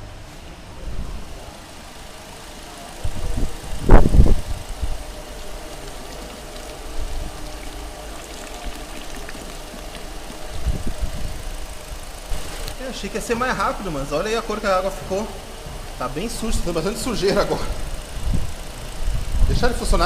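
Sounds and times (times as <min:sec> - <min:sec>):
car engine idling: 0:00.0 - 0:20.0
loud engine rumble: 0:00.0 - 0:20.0.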